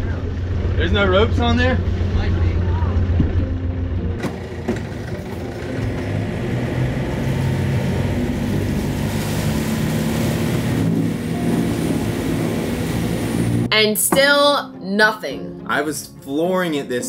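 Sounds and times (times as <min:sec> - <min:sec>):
boat diesel engine running: 0:00.0 - 0:13.8.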